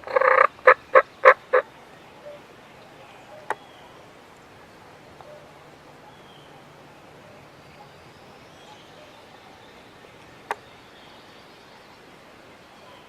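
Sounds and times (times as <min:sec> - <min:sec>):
songbird chirps: 0:00.0 - 0:13.0
steady background hiss: 0:00.0 - 0:13.0.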